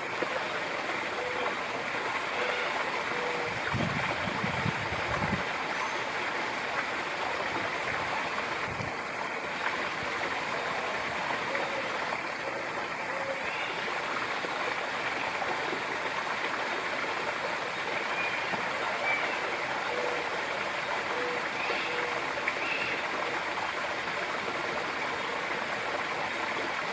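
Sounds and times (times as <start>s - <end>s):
running water: 0.0s - 26.9s.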